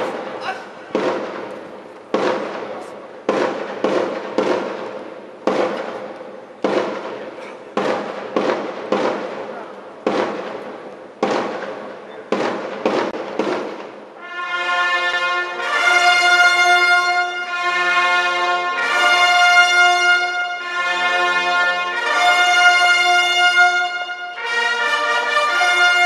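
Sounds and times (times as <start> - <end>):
brass band playing: 0.0 - 26.0
military drum beating: 0.0 - 26.0.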